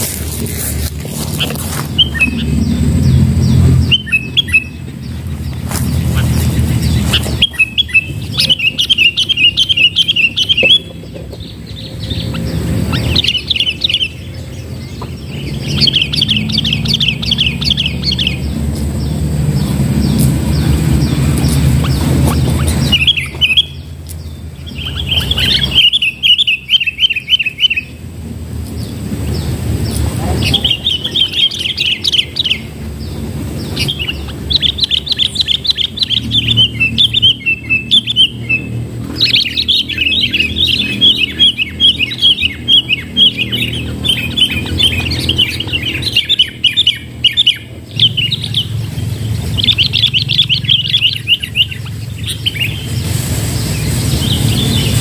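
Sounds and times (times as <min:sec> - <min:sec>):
steady low rumble: 0:00.0 - 0:55.0
bulbul chirping: 0:01.3 - 0:27.9, 0:29.3 - 0:55.0.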